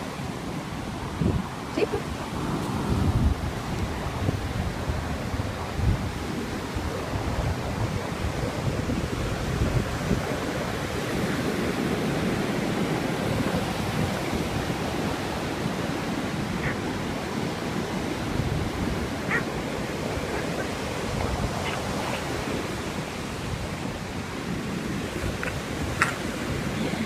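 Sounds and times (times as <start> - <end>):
ocean surf on sand beach: 0.0 - 27.0
wind rumbling on microphone: 0.0 - 27.0.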